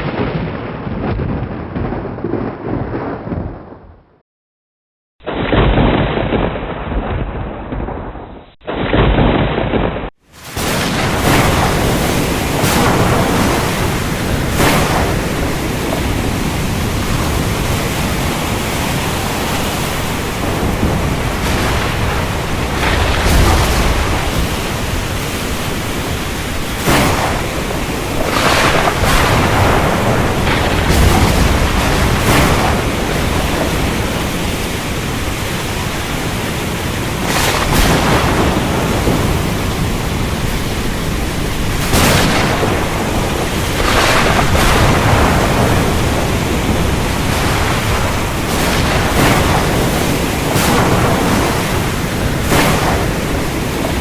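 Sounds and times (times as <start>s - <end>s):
heavy rain downpour: 10.2s - 54.0s.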